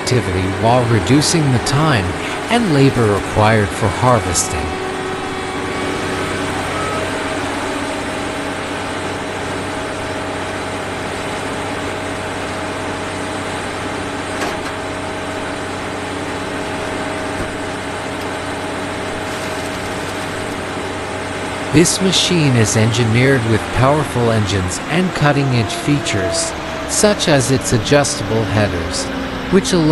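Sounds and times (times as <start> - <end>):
combine harvester running: 0.0 - 29.9.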